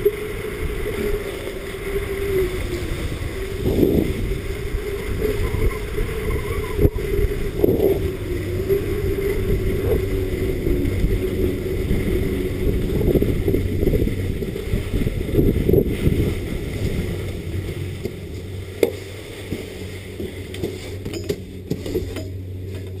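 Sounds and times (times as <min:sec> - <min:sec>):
skis scraping over packed snow: 0:00.0 - 0:23.0
wind rushing over microphone: 0:00.0 - 0:23.0.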